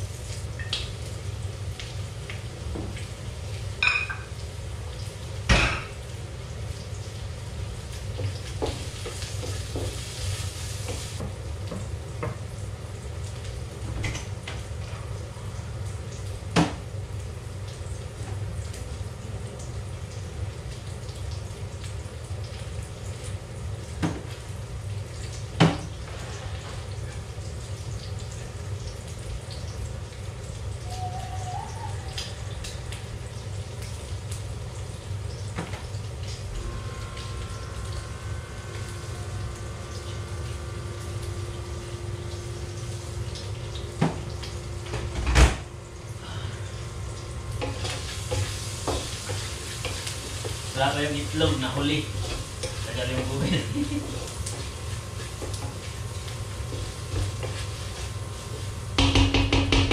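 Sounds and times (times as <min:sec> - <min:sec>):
kitchen hum: 0:00.0 - 0:59.9.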